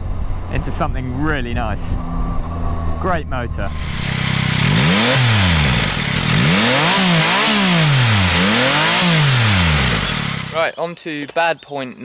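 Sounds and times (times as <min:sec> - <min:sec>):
motorcycle engine revving: 0:00.3 - 0:10.8.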